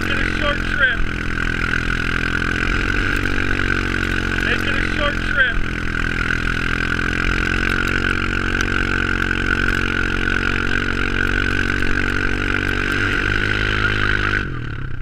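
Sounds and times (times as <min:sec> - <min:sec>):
high whine: 0:00.0 - 0:14.6
vehicle engine running: 0:00.0 - 0:15.0.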